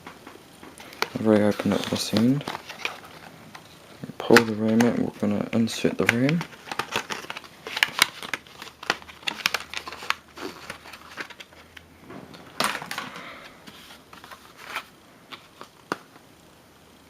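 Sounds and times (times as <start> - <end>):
plastic packaging crackling: 0.6 - 16.2.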